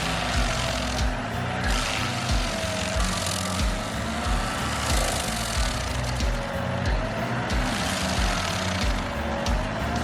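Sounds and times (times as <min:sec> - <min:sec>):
background music with bass beat: 0:00.0 - 0:10.0
machinery running: 0:00.0 - 0:10.0.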